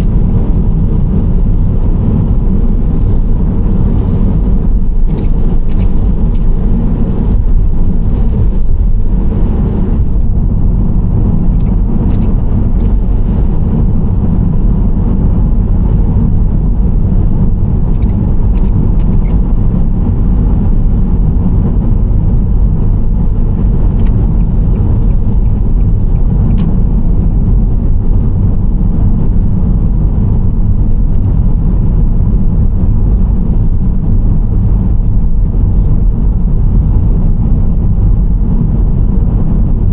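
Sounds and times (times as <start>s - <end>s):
minivan engine and road rumble: 0.0s - 39.9s.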